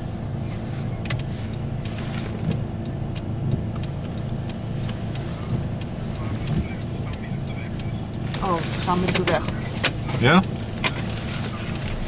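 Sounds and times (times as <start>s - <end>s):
engine and road rumble: 0.0s - 12.0s
faint ticks: 0.4s - 12.0s.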